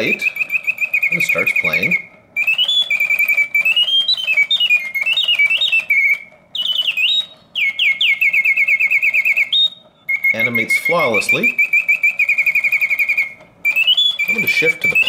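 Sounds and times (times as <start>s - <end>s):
mechanical birdsong whistle trills: 0.0s - 15.0s.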